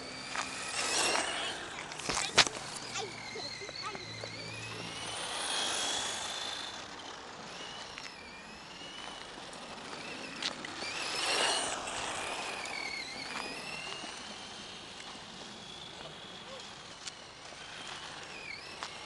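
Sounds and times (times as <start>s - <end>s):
car passing rush: 0.0s - 19.0s
toy car motor whining: 0.0s - 19.0s.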